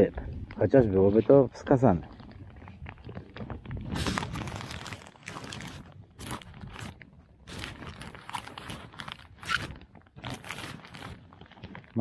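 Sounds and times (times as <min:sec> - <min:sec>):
crinkly crackling rustle: 0:00.0 - 0:12.0.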